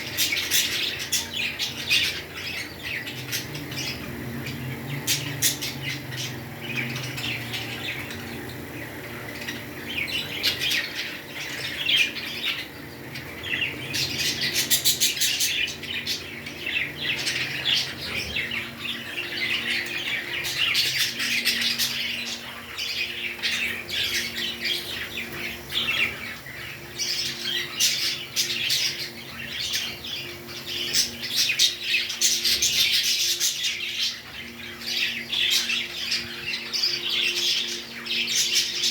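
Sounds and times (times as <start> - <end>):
parrots chattering and squawking: 0.0 - 38.9.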